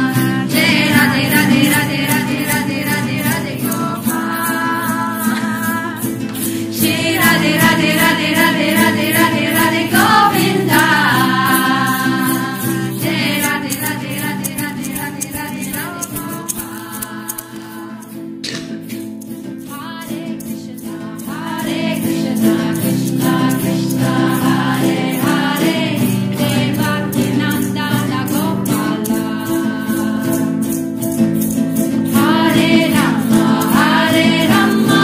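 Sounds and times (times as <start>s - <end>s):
group singing devotional song: 0.0s - 18.7s, 19.6s - 30.8s, 31.4s - 35.0s
shaker beat: 0.0s - 35.0s.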